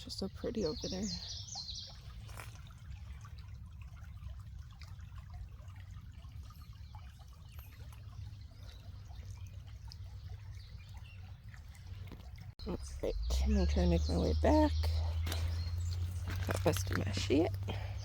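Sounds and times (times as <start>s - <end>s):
low steady rumble: 0.0s - 18.0s
spring water trickling: 0.0s - 18.0s
water drips and splashes: 0.0s - 18.0s.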